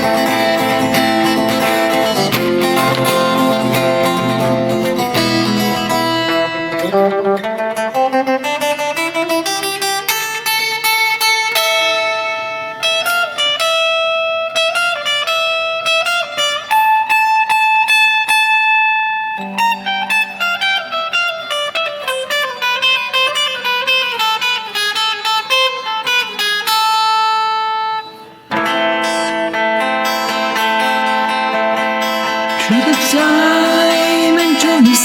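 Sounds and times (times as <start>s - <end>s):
plucked guitar melody: 0.0s - 35.0s.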